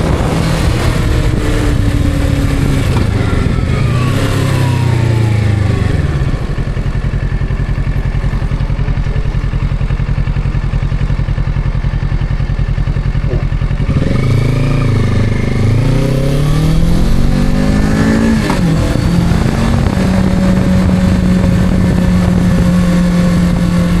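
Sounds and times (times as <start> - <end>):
motorcycle revving in a tunnel: 0.0 - 24.0.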